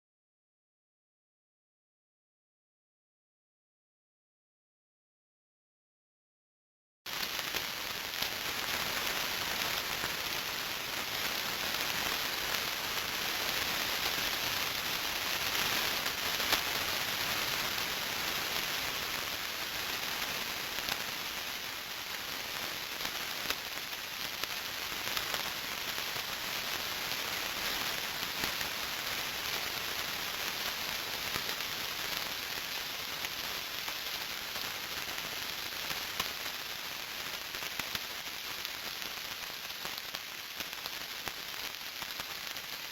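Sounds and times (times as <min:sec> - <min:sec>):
static crackles and pops: 0:07.1 - 0:42.9.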